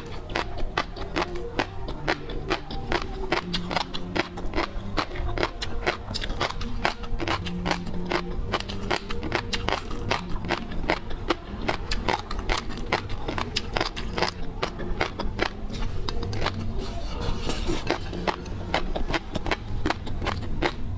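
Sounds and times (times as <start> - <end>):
crunchy chewing of seafood: 0.0 - 20.9.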